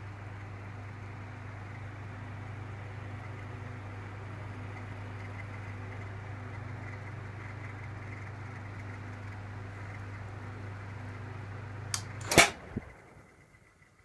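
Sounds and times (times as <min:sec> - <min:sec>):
fan motor hum: 0:00.0 - 0:14.0.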